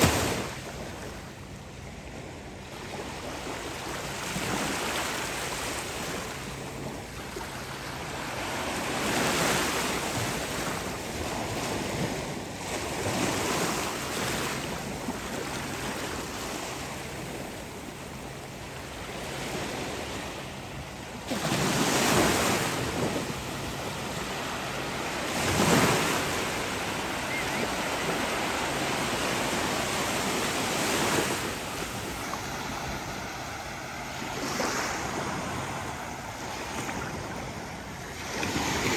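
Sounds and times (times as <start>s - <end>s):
small waves breaking on shore: 0.0s - 38.9s.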